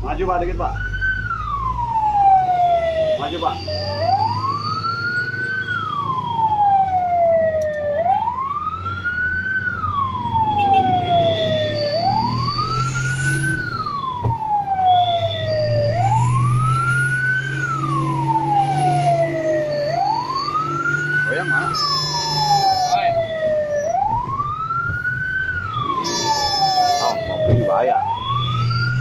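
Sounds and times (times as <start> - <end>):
fire engine siren wailing: 0.0 - 29.0.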